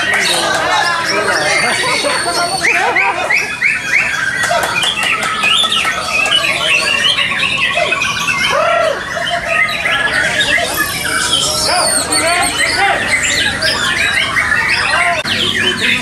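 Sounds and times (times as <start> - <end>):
many birds singing: 0.0 - 16.0.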